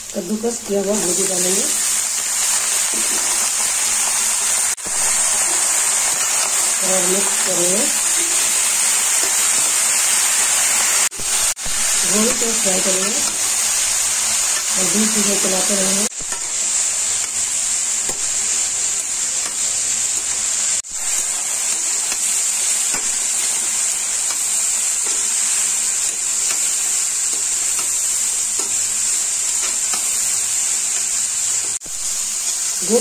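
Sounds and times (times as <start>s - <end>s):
cauliflower sizzling in oil: 0.0s - 33.0s.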